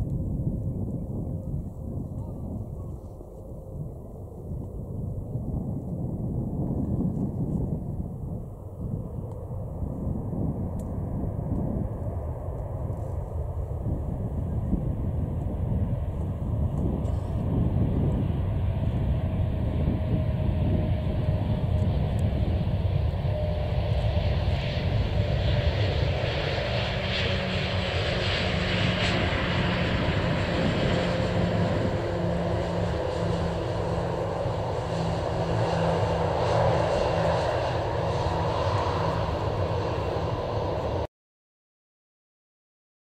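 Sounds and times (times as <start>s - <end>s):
droning hum: 0.0s - 41.1s
jet engine rumble and hiss: 0.0s - 41.1s.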